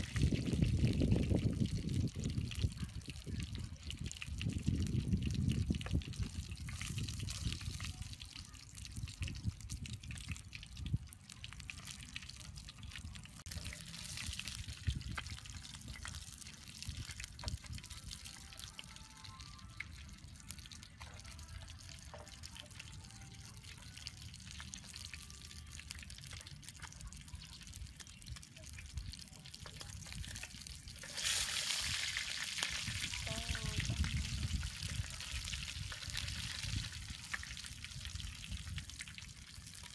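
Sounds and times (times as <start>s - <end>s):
fish frying in oil: 0.0s - 39.9s.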